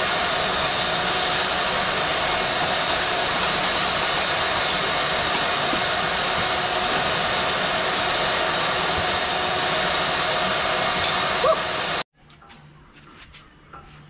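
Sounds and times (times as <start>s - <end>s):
vacuum cleaner running: 0.0s - 12.1s.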